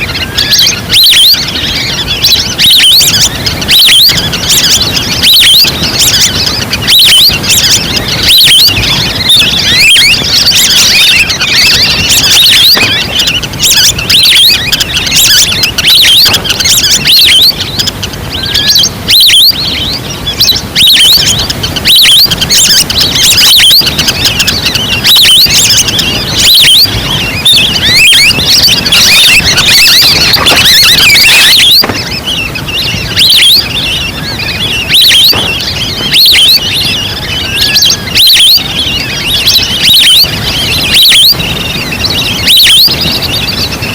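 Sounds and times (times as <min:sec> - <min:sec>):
ducks whistling calls: 0:00.0 - 0:43.9.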